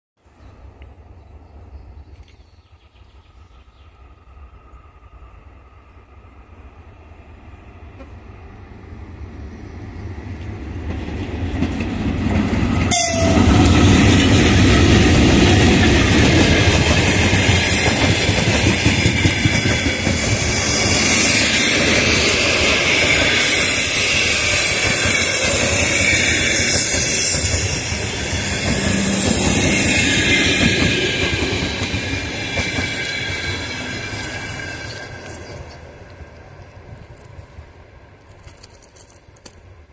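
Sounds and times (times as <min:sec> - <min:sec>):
passenger train passing: 0:00.3 - 0:39.9.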